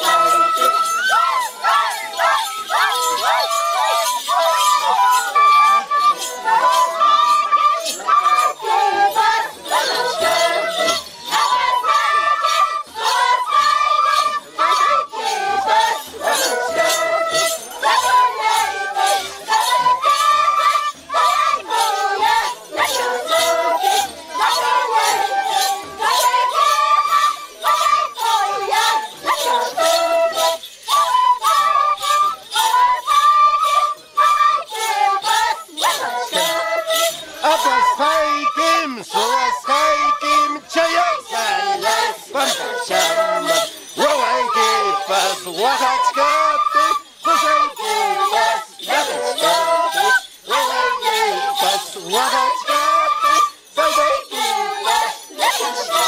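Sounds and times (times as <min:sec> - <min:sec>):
cane flutes playing: 0:00.0 - 0:56.0
high-pitched voices singing: 0:00.0 - 0:56.0
small bells jingling: 0:00.0 - 0:56.0.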